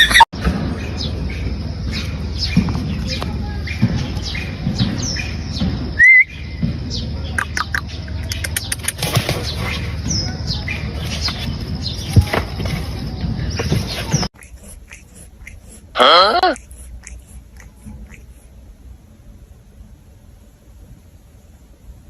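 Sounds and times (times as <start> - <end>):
birds chirping: 0.0 - 18.6
steady low hum: 0.4 - 22.0.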